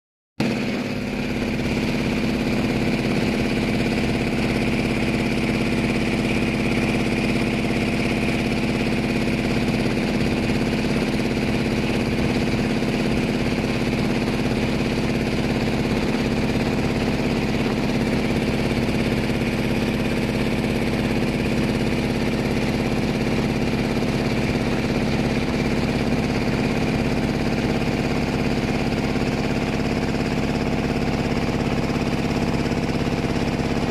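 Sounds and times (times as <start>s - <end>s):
boat engine running: 0.4s - 33.9s.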